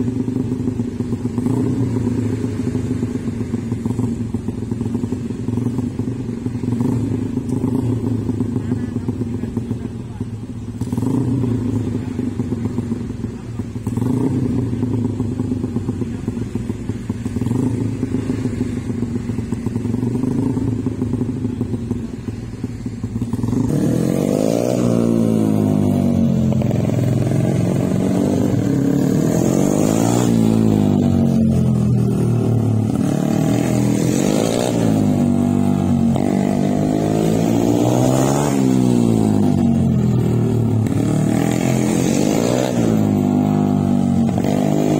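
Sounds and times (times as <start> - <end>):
small motorbike engine revving: 0.0 - 44.9.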